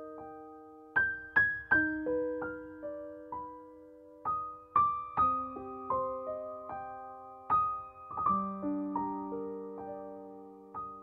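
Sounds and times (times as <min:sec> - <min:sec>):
slow gentle piano melody: 0:00.0 - 0:11.0.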